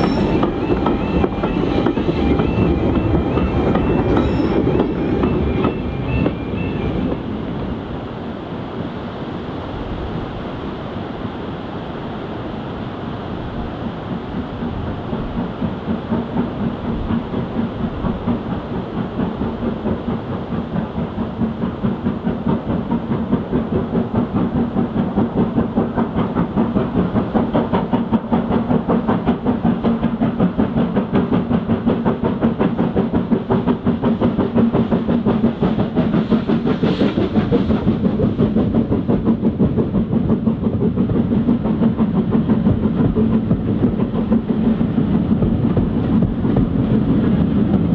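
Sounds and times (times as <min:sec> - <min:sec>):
steam locomotive exhaust beats: 0:00.0 - 0:08.8, 0:12.7 - 0:47.9.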